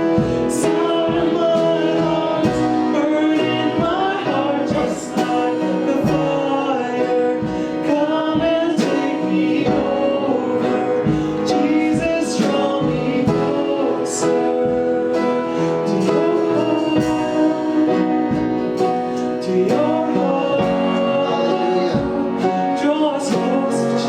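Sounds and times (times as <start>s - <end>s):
guitar and band: 0.0s - 24.0s
people singing worship song: 0.0s - 24.0s.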